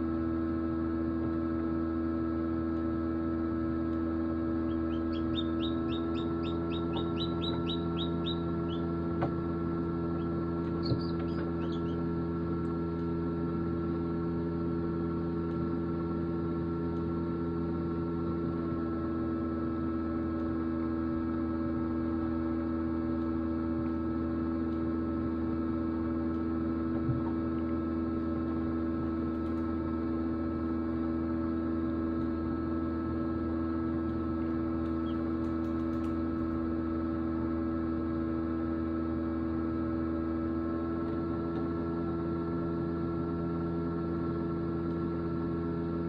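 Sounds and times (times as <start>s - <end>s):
incubator electrical hum: 0.0s - 46.0s.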